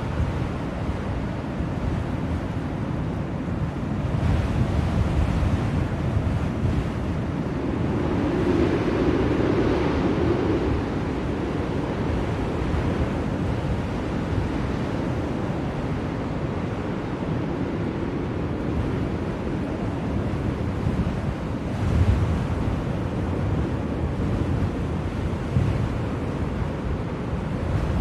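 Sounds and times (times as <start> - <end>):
blizzard wind gusting: 0.0 - 28.0.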